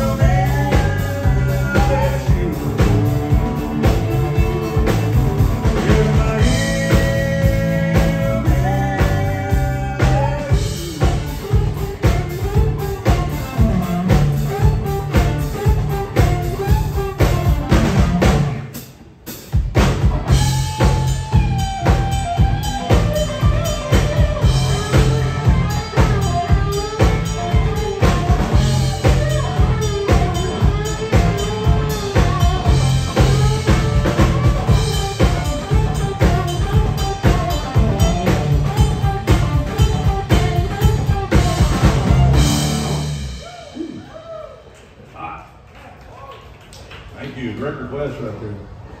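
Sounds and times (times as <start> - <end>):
country-rock band playing: 0.0 - 44.0.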